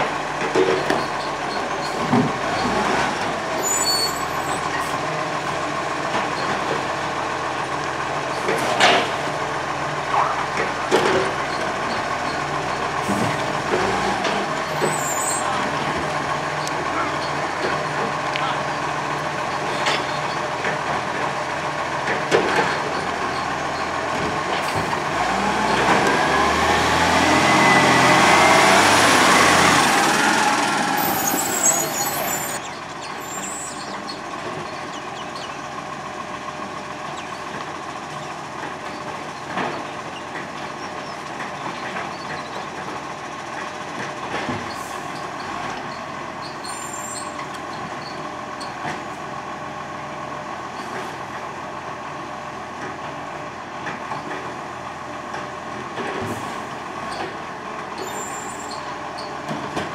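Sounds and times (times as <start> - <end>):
diesel engine revving: 0.0 - 52.7.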